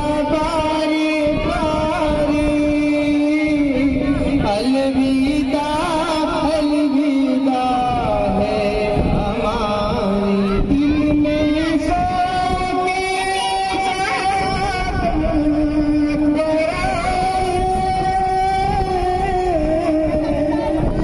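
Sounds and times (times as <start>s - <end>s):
person chanting over loudspeakers: 0.0s - 21.0s.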